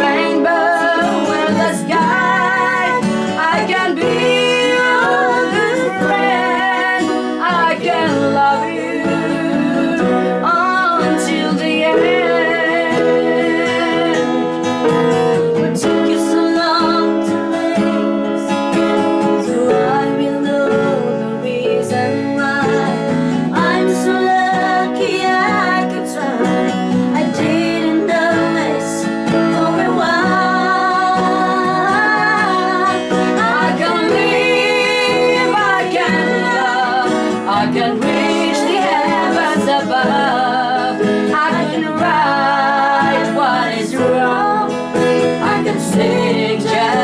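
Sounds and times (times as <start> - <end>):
acoustic guitar: 0.0 - 47.0.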